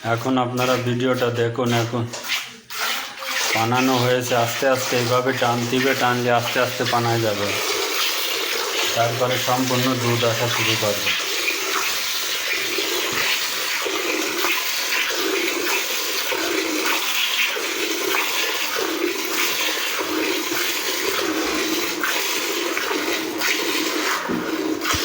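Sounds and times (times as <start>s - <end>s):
milk squirting into a pail: 0.1s - 25.0s.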